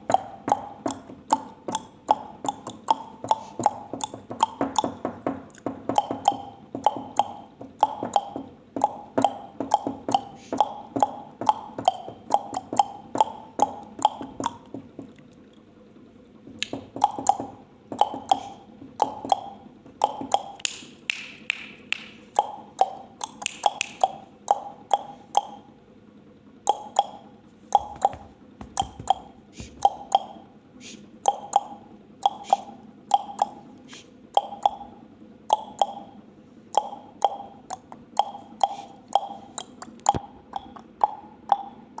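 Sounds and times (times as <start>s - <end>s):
parrot making popping clicks: 0.0s - 15.2s, 16.6s - 25.7s, 26.6s - 42.0s.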